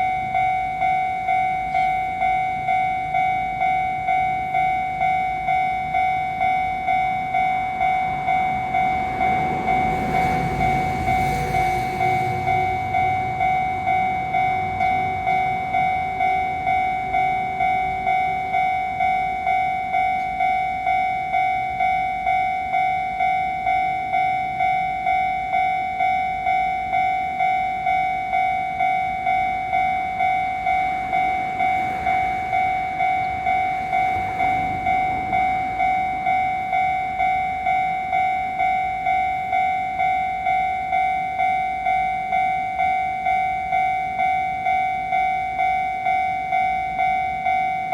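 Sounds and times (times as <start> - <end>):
level-crossing warning bell: 0.0 - 47.9.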